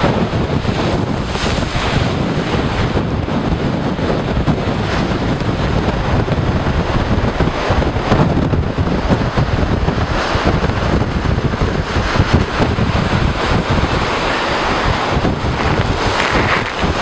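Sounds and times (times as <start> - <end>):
waves surging against shore: 0.0 - 17.0
wind buffeting microphone: 0.0 - 17.0.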